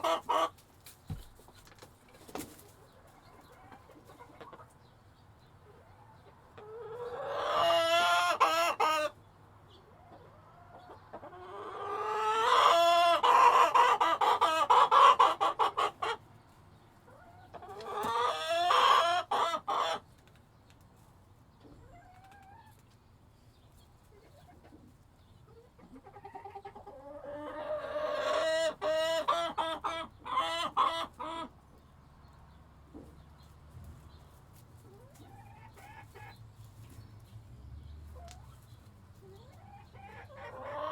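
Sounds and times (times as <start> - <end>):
chickens calling and clucking: 0.0 - 40.9.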